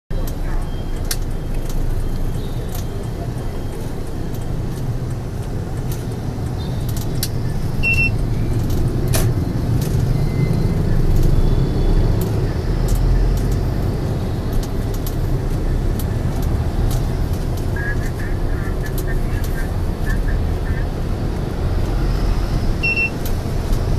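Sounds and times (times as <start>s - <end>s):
road noise: 0.1s - 23.9s
small engines rumbling: 0.1s - 23.9s.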